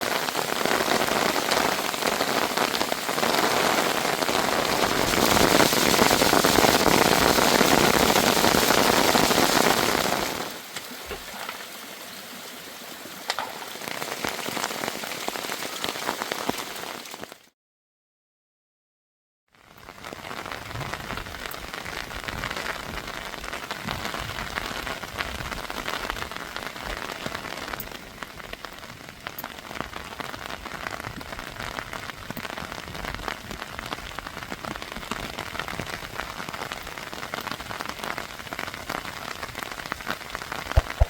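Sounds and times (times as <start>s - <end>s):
heavy rain pouring: 0.0s - 17.5s, 19.8s - 41.0s.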